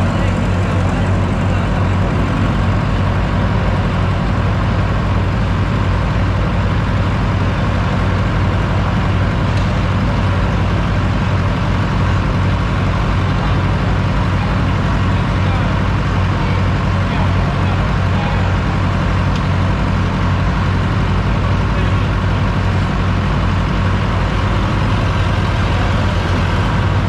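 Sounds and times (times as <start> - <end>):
loader engine idling: 0.0 - 27.0.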